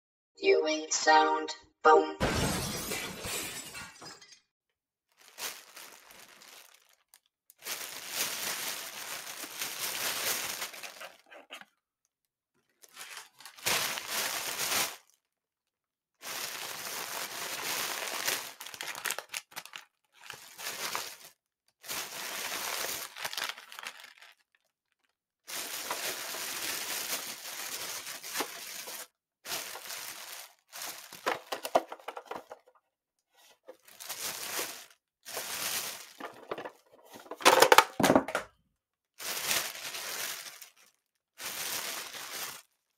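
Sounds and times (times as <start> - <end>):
plastic bag crinkling: 5.1 - 11.8, 12.6 - 15.2, 16.2 - 32.7, 33.4 - 38.4, 39.2 - 42.9.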